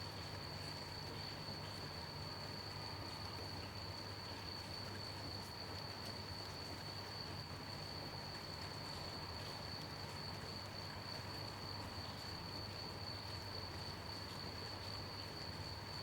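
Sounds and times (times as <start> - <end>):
crickets chirping: 0.0 - 16.0
gentle rain hiss: 0.0 - 16.0.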